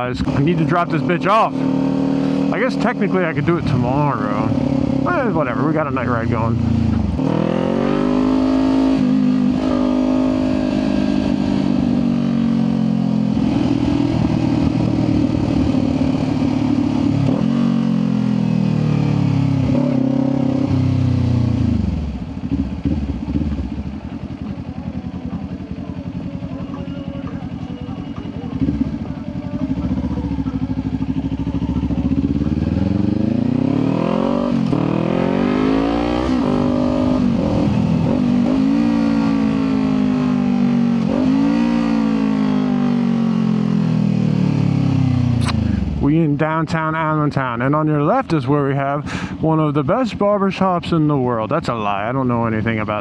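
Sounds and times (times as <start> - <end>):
motorcycle engine revving: 0.0 - 46.2.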